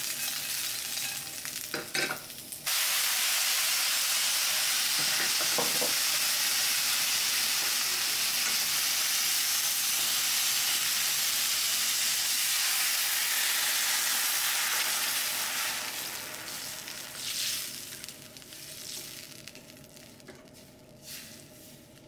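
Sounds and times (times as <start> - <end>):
water sizzling in a hot pan: 0.0 - 22.0.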